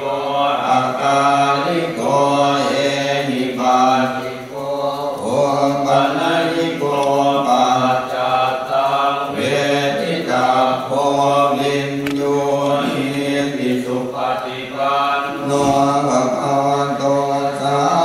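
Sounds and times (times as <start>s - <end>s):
voices chanting prayers: 0.0s - 18.0s.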